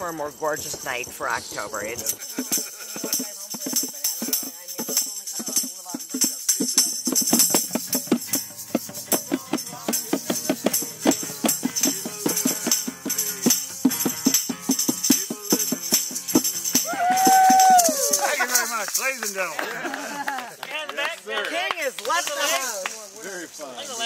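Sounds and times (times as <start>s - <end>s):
music with fast percussion beat: 0.0s - 20.3s.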